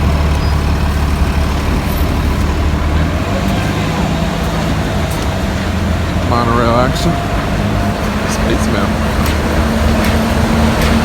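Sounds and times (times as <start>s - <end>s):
monorail motor hum: 0.0s - 11.0s.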